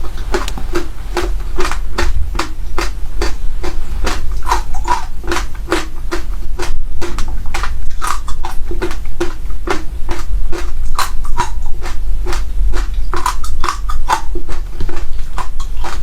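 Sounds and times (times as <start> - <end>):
crunchy chewing: 0.0 - 16.0.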